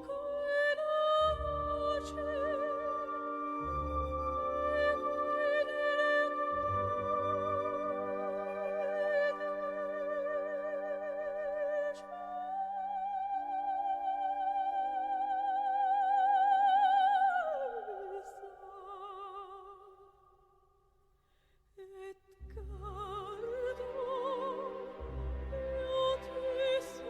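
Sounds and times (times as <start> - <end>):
soprano singing operatic melody: 0.0 - 20.1, 21.8 - 27.0.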